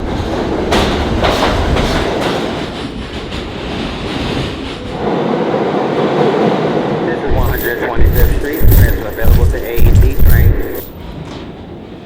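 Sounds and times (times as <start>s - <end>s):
subway train rumbling: 0.0s - 12.0s
subway train wheels clacking: 0.0s - 12.0s.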